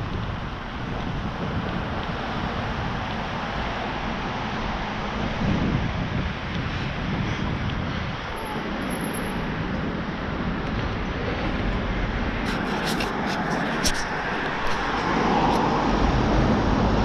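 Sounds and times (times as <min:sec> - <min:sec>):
road traffic: 0:00.0 - 0:17.0
wind on microphone: 0:00.0 - 0:17.0.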